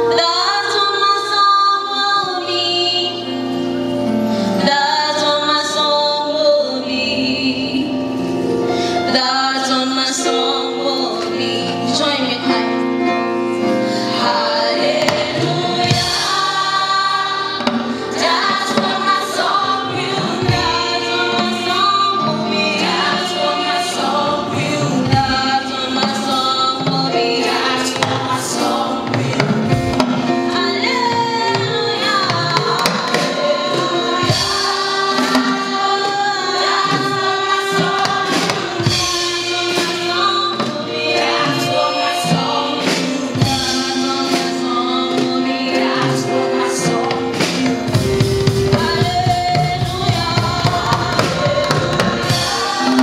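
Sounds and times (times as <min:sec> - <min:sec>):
live band playing: 0:00.0 - 0:53.0
women singing gospel in harmony: 0:00.0 - 0:53.0.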